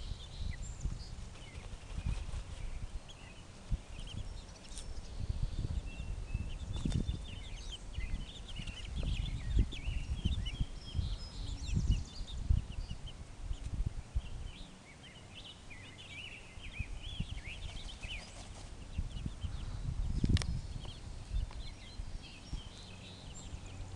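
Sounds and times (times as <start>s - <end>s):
baby chicks peeping: 0.0s - 23.9s.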